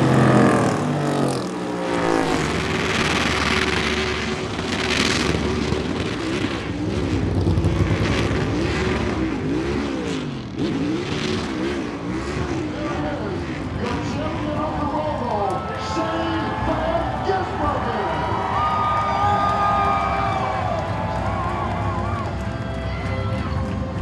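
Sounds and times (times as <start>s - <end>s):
race car engines revving: 0.0s - 24.0s
race car passing by: 0.0s - 24.0s.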